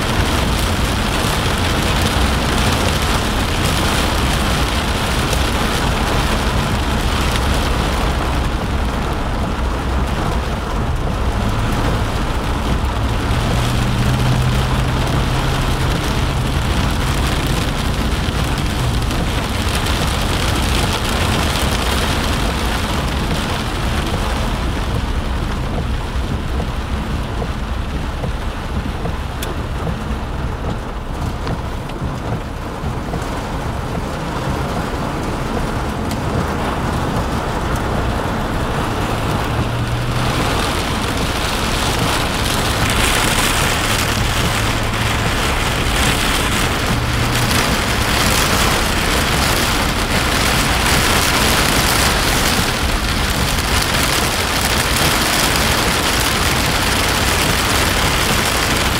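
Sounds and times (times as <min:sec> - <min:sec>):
engine and road rumble: 0:00.0 - 0:58.9
heavy rain on car roof: 0:00.0 - 0:58.9.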